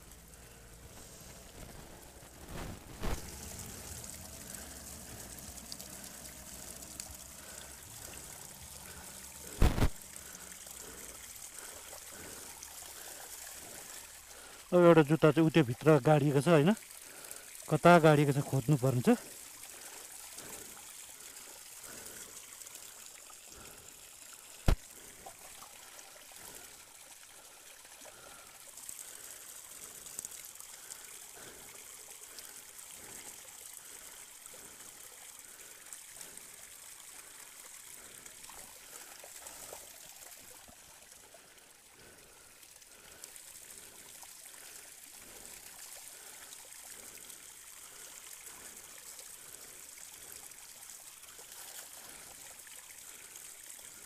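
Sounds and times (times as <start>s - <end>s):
water running from a spout: 0.0s - 54.0s.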